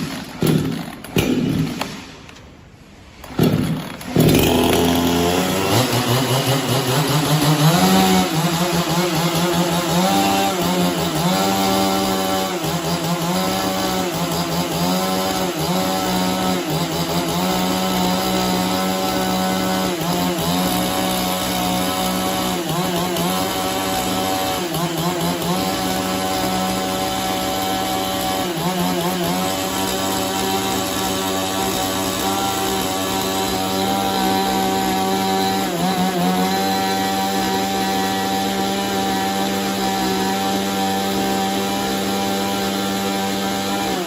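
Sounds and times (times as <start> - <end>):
chainsaw engine running: 0.0 - 1.9, 3.2 - 44.0.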